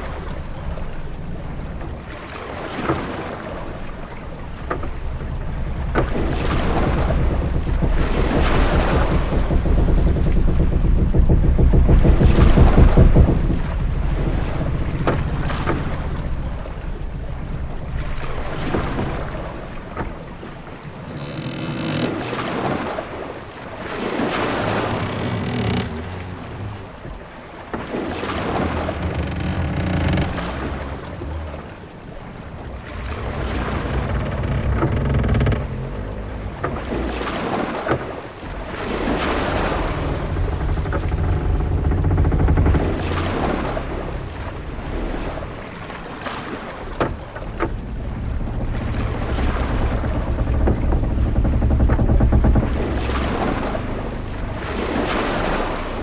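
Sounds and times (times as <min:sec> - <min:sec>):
drawn-out creak: 0:00.0 - 0:56.0
low wind rumble: 0:00.0 - 0:56.0
waves washing against hull: 0:00.0 - 0:56.0.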